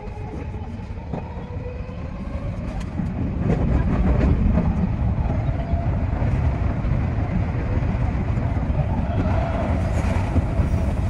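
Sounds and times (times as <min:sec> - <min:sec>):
rumble of wheels on track: 0:00.0 - 0:11.0.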